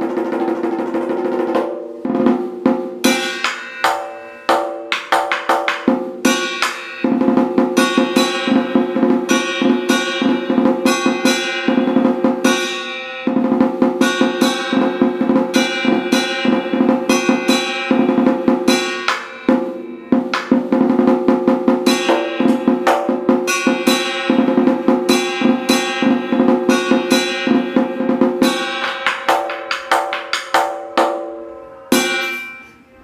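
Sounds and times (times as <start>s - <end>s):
large drum rolling beat: 0.0s - 31.4s.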